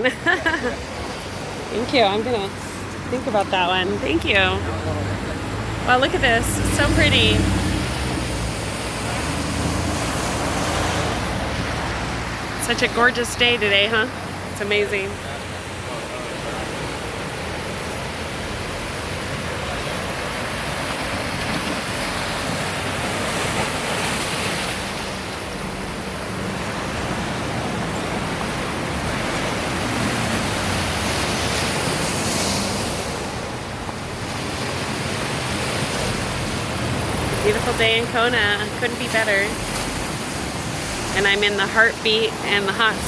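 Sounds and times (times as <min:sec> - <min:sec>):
ocean surf washing in: 0:00.0 - 0:43.0.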